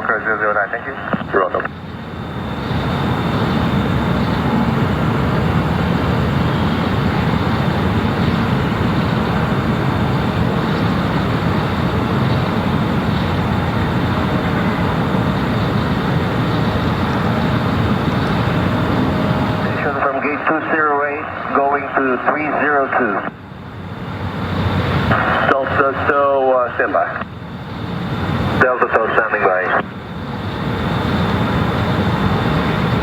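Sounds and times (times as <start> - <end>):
jet engines rumbling and whining: 0.0 - 33.0.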